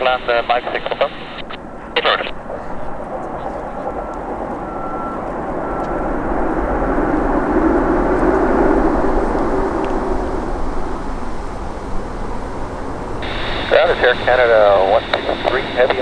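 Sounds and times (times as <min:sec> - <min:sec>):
jet airliner passing: 0:00.0 - 0:16.0.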